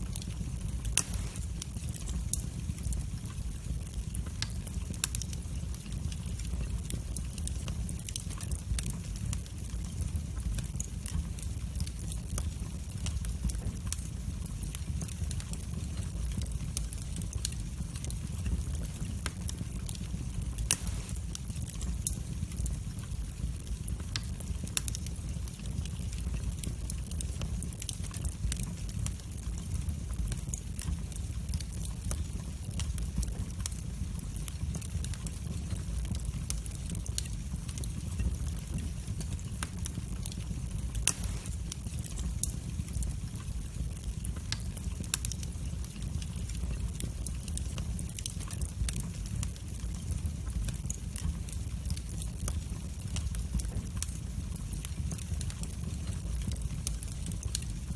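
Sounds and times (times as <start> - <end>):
fire rumbling: 0.0 - 57.9
wood fire crackling and popping: 0.0 - 57.9.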